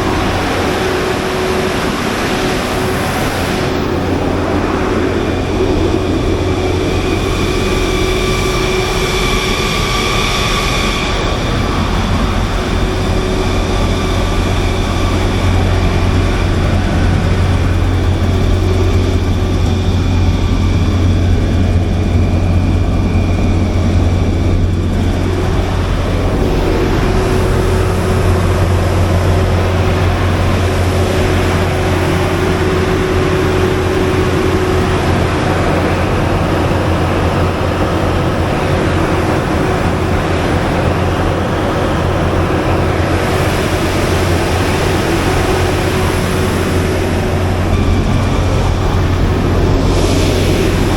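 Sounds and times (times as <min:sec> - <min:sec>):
generator low drone: 0:00.0 - 0:50.9.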